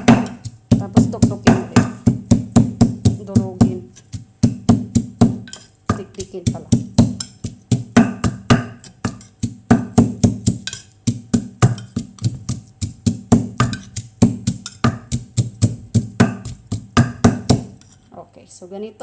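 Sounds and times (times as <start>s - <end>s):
pestle pounding in mortar: 0.0s - 18.0s.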